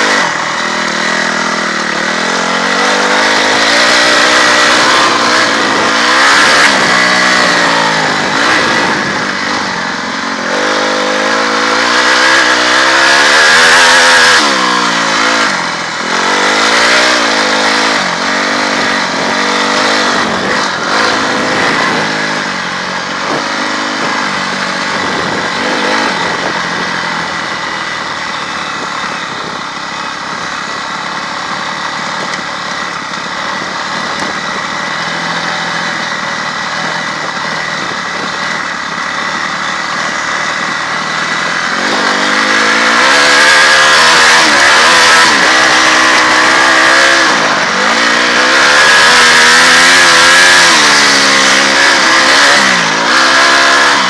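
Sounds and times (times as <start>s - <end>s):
motorcycle engine revving: 0.0s - 54.0s
wind noise: 2.2s - 30.6s, 32.9s - 54.0s.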